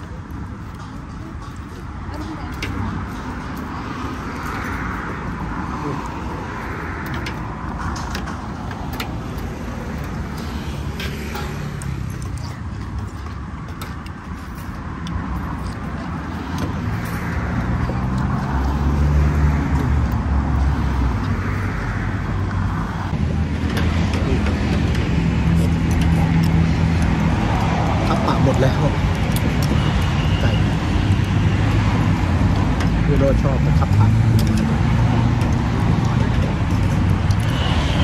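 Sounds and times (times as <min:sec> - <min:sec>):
vehicle engine low hum: 0:00.0 - 0:37.7
road traffic passing: 0:00.0 - 0:38.0.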